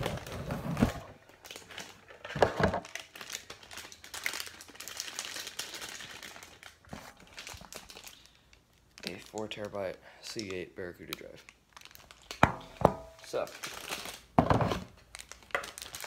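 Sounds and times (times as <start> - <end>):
foil bag crinkling: 0.0 - 12.4, 13.2 - 16.0.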